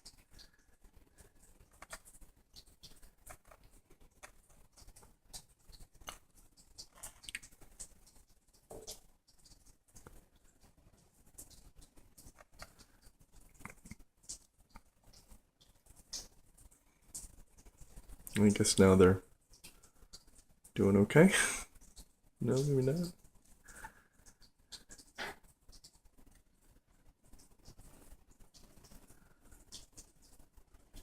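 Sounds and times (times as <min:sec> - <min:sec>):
clicks and scratches: 0:00.0 - 0:18.6, 0:21.7 - 0:31.0.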